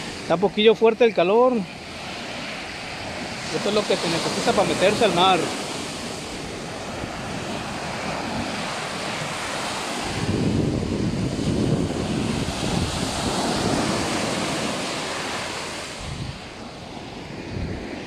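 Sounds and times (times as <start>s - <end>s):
ocean waves on a beach: 0.0s - 18.0s
wind buffeting microphone: 1.6s - 18.0s.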